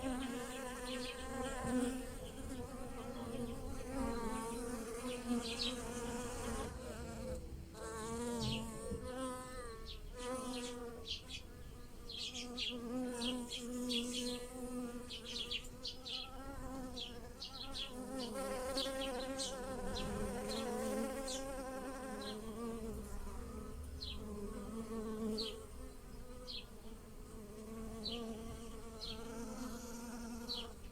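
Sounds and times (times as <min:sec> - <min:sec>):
bees buzzing: 0:00.0 - 0:11.2, 0:12.0 - 0:30.9.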